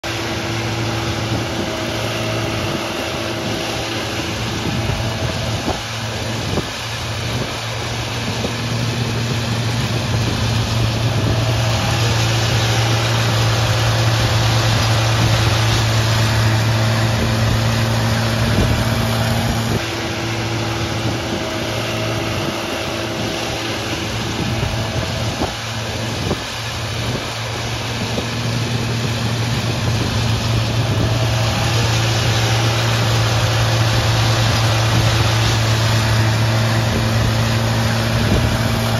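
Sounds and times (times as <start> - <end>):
power trowel engine humming: 0.0 - 38.9.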